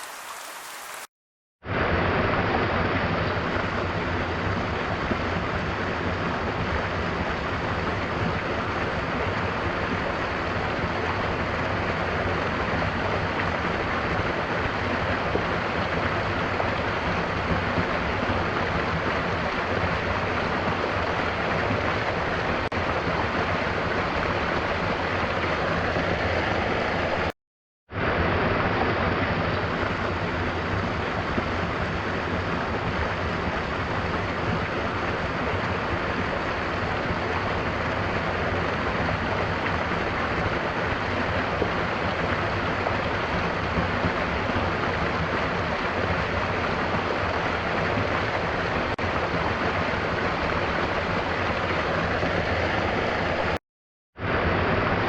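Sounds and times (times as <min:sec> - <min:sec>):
waterfall rushing: 0:00.0 - 0:01.1, 0:01.7 - 0:27.3, 0:28.0 - 0:53.6
gentle rain: 0:00.0 - 0:53.6.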